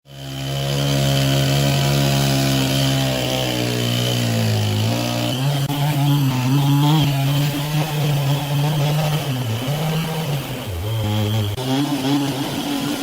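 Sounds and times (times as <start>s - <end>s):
gas-powered saw engine running: 0.1s - 13.0s.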